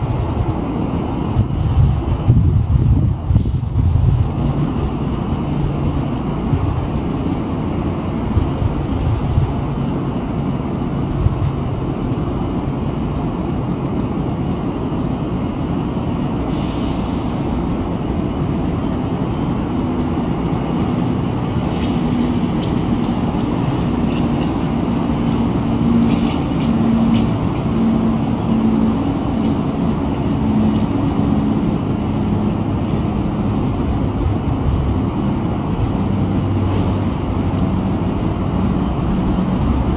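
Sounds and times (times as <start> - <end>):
train low rumble: 0.0 - 39.9.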